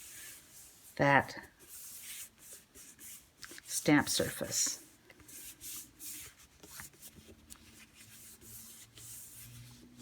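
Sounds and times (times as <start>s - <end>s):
hands rubbing paper: 0.0s - 10.0s.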